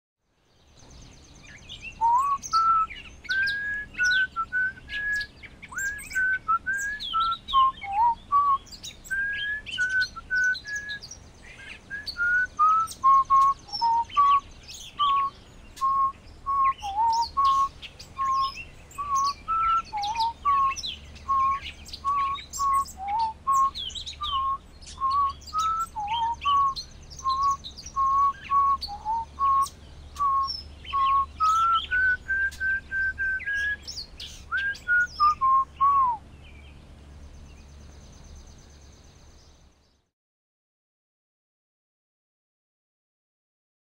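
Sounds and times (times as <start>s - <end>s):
songbirds chirping faintly: 0.2s - 40.1s
bird whistled call: 1.1s - 36.8s.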